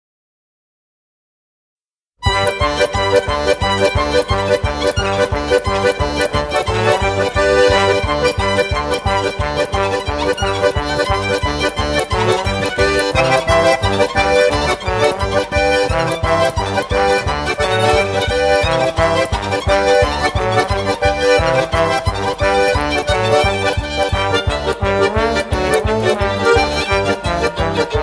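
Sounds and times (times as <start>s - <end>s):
instrumental background music: 2.2s - 28.0s.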